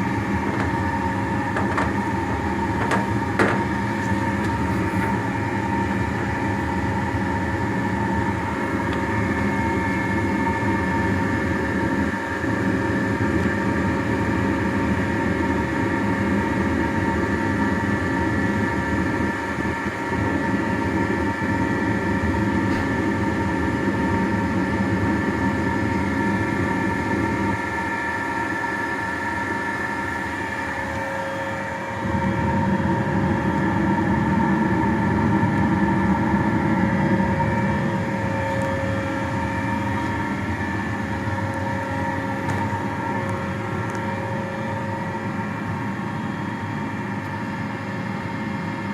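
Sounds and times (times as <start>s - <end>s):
lathe mechanical hum: 0.0s - 48.9s
steady whining tones: 0.0s - 48.9s.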